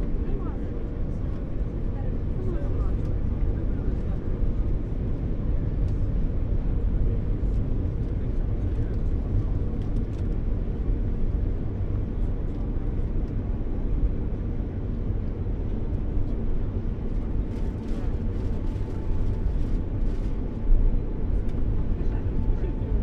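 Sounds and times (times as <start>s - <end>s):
subway train low rumble: 0.0s - 23.0s.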